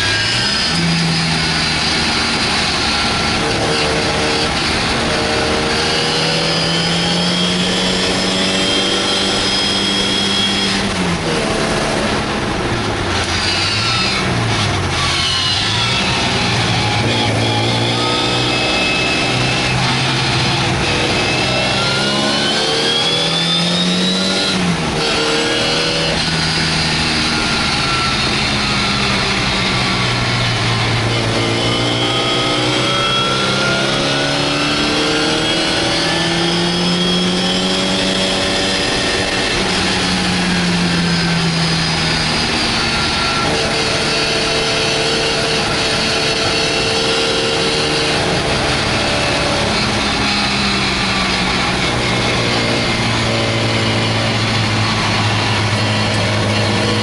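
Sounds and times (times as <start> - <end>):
car engine revving under load: 0.0 - 57.0.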